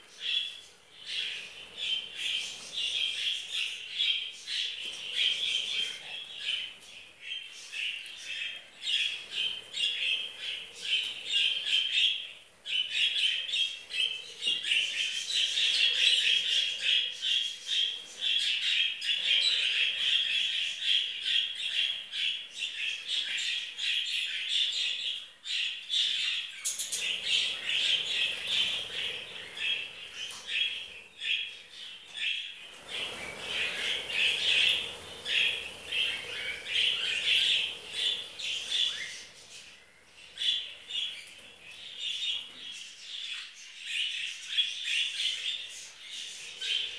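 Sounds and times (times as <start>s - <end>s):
budgerigars chirping and squawking: 0.1s - 46.9s.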